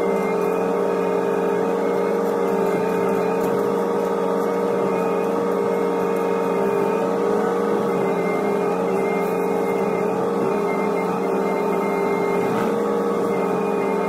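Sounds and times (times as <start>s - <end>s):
excavator engine running: 0.0s - 14.0s
hydraulic whine: 0.0s - 14.0s.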